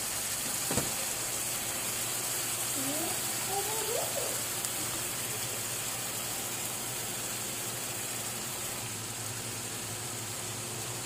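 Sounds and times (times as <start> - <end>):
curry sizzling in frying pan: 0.0 - 11.0.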